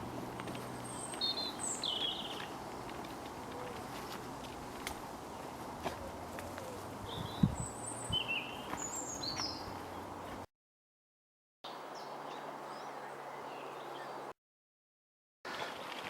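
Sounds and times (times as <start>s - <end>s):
birds chirping: 0.0s - 10.5s, 11.9s - 14.3s.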